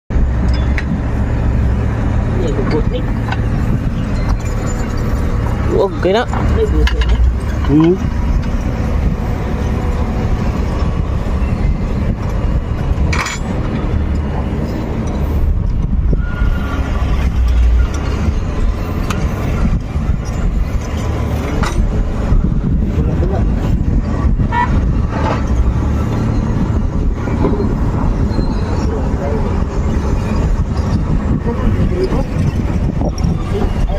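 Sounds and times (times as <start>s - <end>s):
diesel engine rumbling: 0.1s - 33.9s.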